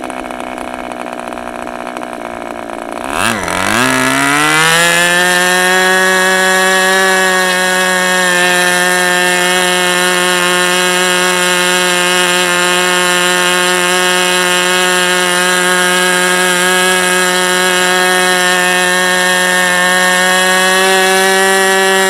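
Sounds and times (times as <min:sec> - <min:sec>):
model engine high buzz: 0:00.0 - 0:22.0.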